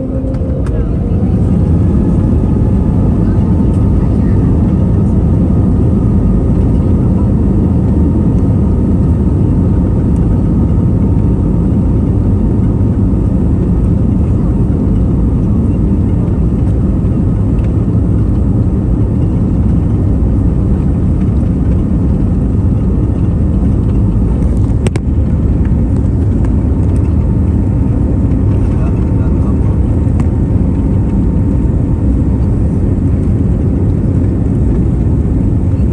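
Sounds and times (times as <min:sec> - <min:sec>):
jet engine rumble in cabin: 0:00.0 - 0:35.9.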